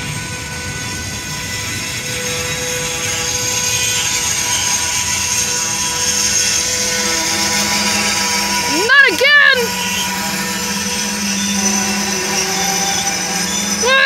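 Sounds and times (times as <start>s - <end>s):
faint steady whine: 0.0s - 14.0s
train wheels rumbling on rails: 0.0s - 14.0s.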